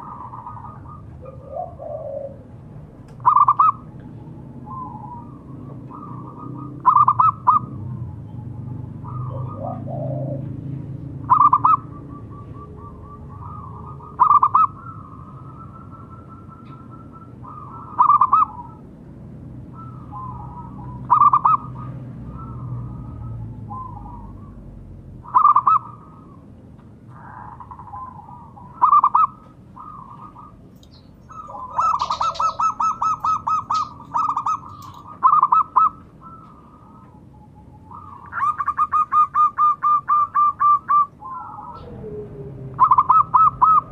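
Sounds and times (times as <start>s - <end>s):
dove cooing: 0.0s - 19.0s, 19.6s - 26.5s, 27.1s - 43.9s.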